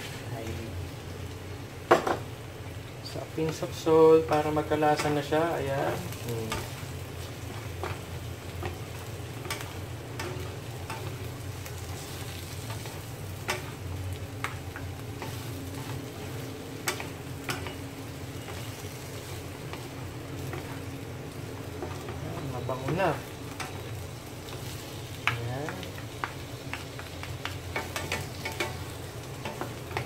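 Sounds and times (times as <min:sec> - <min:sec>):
food sizzling in frying pan: 0:00.0 - 0:30.0.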